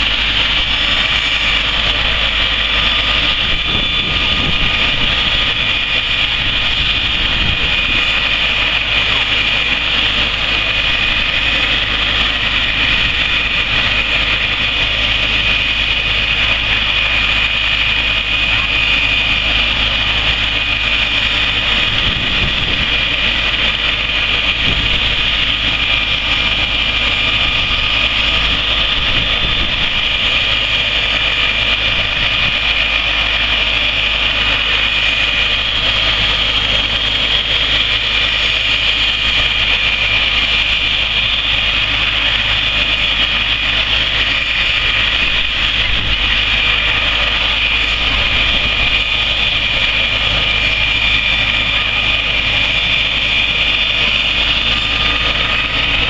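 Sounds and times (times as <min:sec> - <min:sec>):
helicopter idling: 0:00.0 - 0:56.0.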